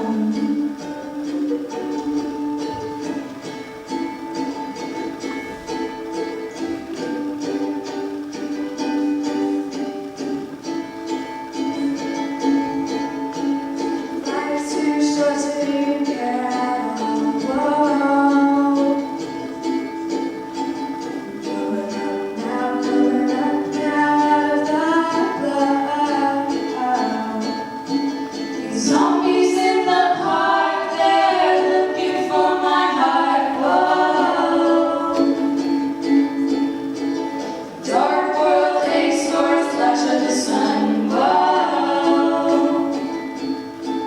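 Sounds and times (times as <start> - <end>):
ukulele strumming: 0.0 - 44.0
voices singing long notes: 0.0 - 44.0.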